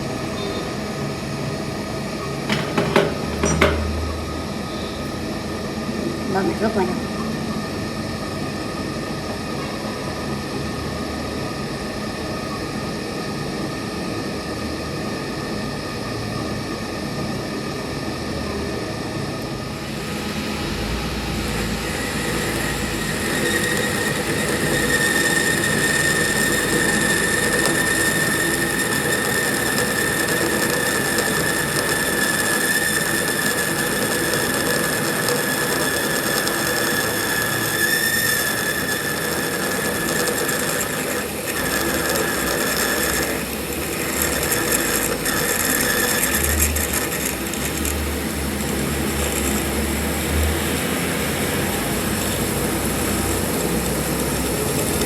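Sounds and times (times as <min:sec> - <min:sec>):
metalworking machine running: 0:00.0 - 0:09.2, 0:15.9 - 0:55.0
high steady whine: 0:00.0 - 0:55.0.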